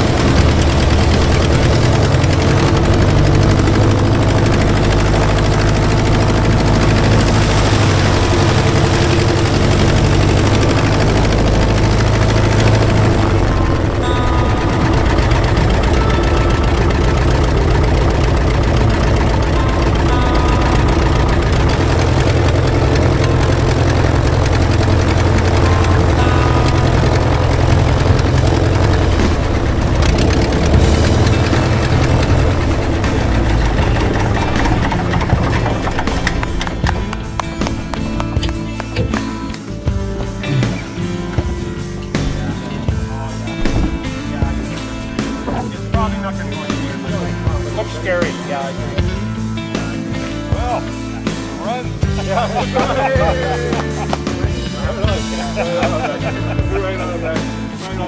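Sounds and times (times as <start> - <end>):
propeller aircraft engine running: 0.0 - 58.0.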